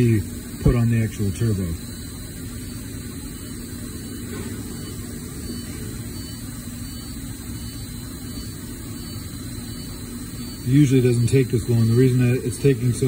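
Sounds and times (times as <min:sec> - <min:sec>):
faint steady tone: 0:00.0 - 0:13.0
machinery hum and rumble: 0:00.0 - 0:13.0.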